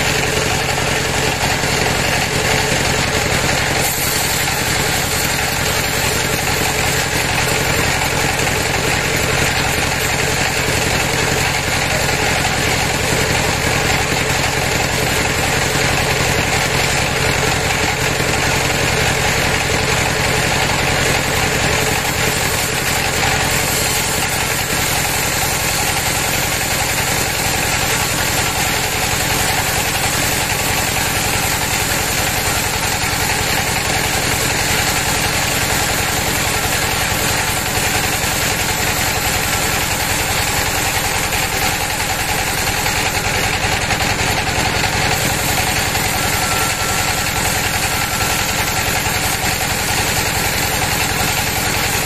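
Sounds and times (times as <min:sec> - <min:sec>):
band saw cutting timber: 0:00.0 - 0:52.0.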